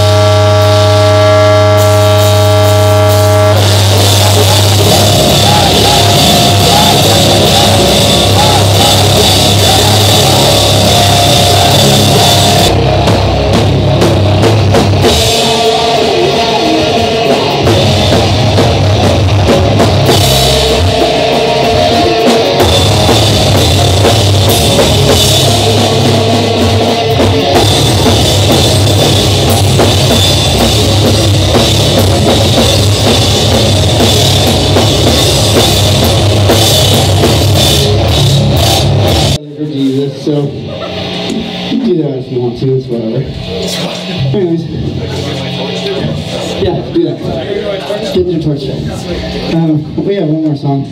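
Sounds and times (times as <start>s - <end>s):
drum kit and cymbals: 0.0s - 42.6s
live rock band playing: 0.0s - 50.2s.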